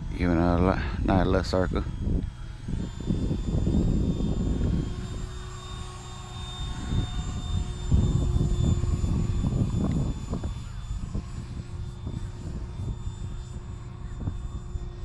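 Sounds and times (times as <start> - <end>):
jet fan high whine: 0.0 - 15.0
wind rumble on microphone: 0.0 - 15.0.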